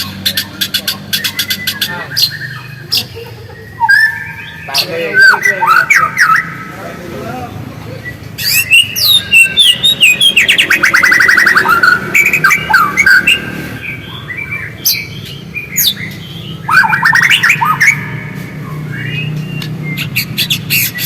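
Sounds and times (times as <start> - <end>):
songbird singing whistled notes: 0.0 - 6.8, 7.9 - 21.0.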